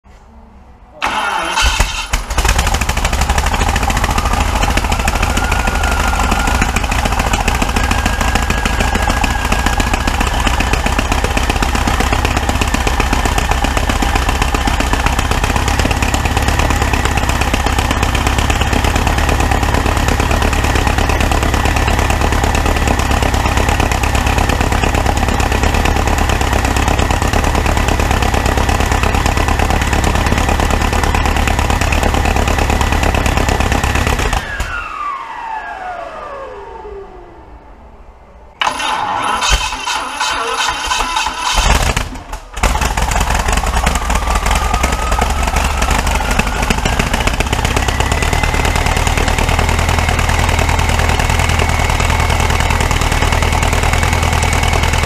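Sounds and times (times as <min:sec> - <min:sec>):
engine firing up and running: 0:01.0 - 0:55.0.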